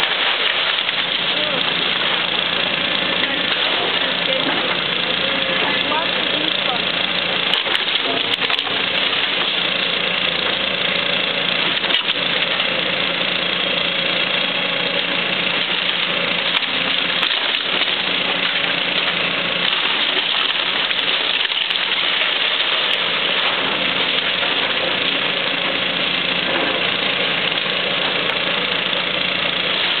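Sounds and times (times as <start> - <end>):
diesel engine running: 0.0 - 30.0
timber cracking: 0.0 - 30.0.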